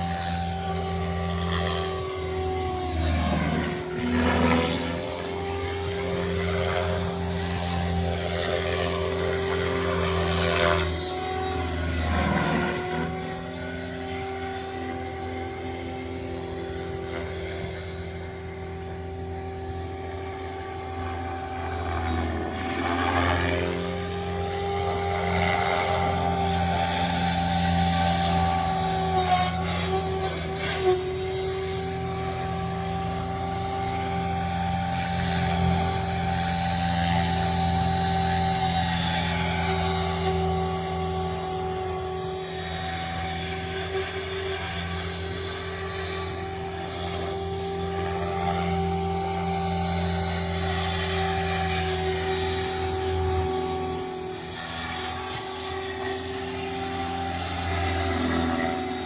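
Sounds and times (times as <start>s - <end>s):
electric motor whine: 0.0s - 59.0s
helicopter rotor blades humming: 0.0s - 59.0s.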